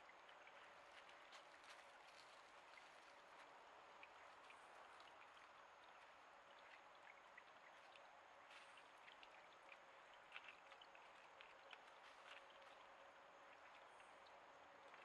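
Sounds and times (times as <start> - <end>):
faint rush of water: 0.0 - 15.0
small ticks and drips: 0.0 - 15.0.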